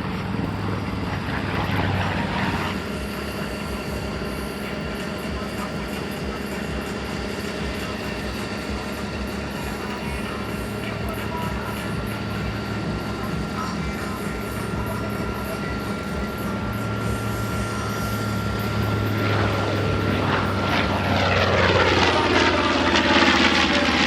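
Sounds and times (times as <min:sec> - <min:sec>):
propeller plane engines passing: 0:00.0 - 0:24.0.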